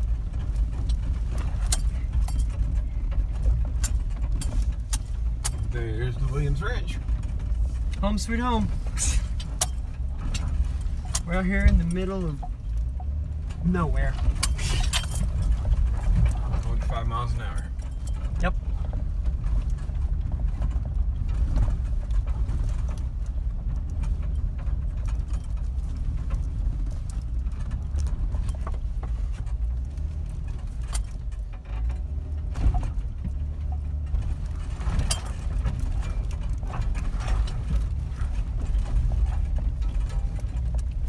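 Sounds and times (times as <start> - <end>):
clicks and knocks over rocks: 0.0 - 41.0
low engine and tyre rumble: 0.0 - 41.0.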